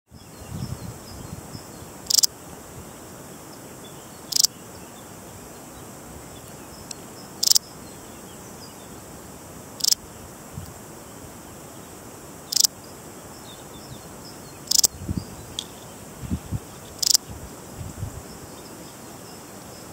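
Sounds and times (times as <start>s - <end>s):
bush-cricket chirps: 0.1s - 19.9s
steady background hiss: 0.1s - 19.9s.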